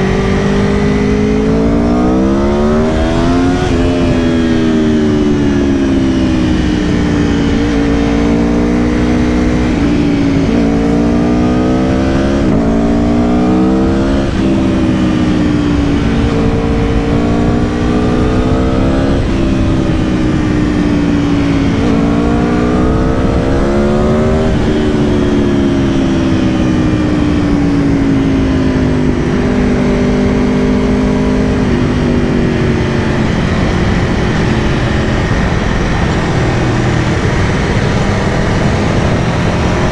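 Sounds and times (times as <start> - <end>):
motorcycle engine revving: 0.0 - 39.9
wind and road rumble: 0.0 - 39.9.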